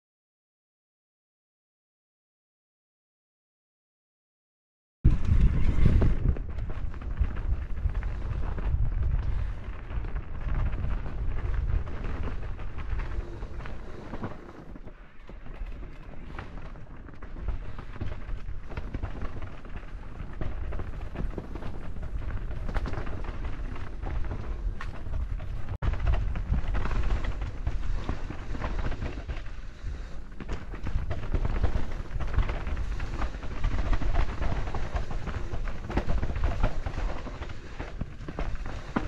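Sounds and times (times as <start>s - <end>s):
bike rattling and knocking: 5.1s - 39.0s
wind rumble on microphone: 5.1s - 39.0s.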